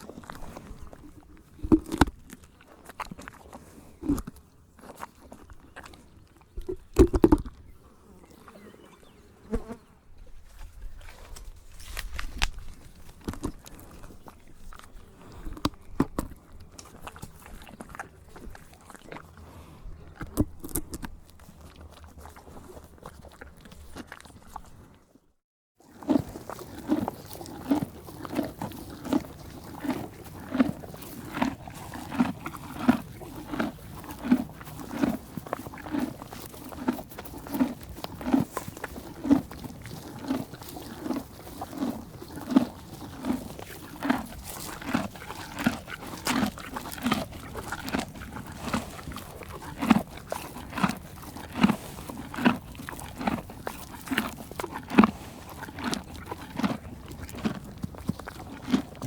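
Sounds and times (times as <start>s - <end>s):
animal chewing food: 0.0s - 8.9s, 10.9s - 25.2s, 25.8s - 59.0s.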